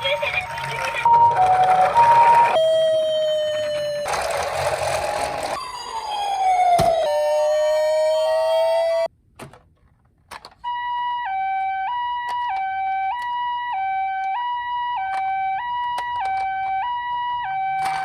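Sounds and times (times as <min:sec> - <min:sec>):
toy electronic siren: 0:00.0 - 0:09.1, 0:10.6 - 0:18.0.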